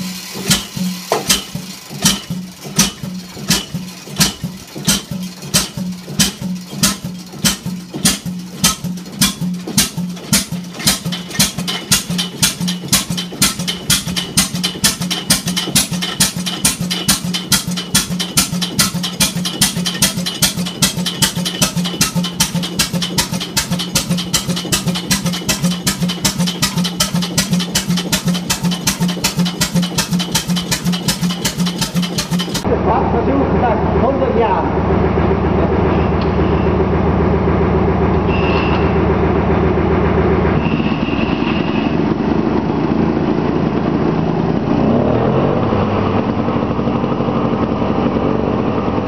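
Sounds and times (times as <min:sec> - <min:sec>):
diesel engine firing beats: 0:00.0 - 0:49.0.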